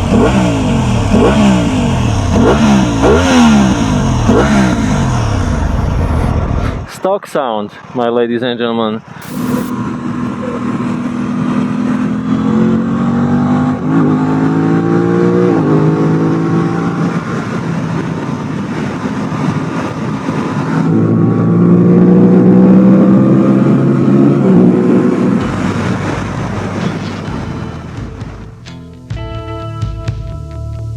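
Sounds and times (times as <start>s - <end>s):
motorcycle engine accelerating hard: 0.0s - 6.9s, 9.2s - 28.6s.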